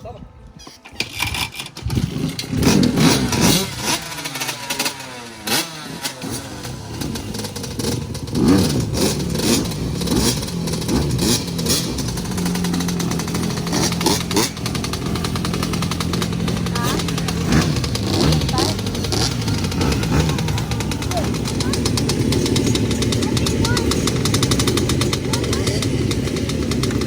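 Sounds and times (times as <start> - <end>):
dirt bike engine revving: 1.0 - 27.0.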